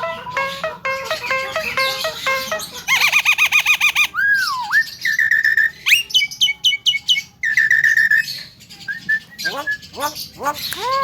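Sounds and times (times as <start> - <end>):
myna bird calling: 0.0 - 11.0.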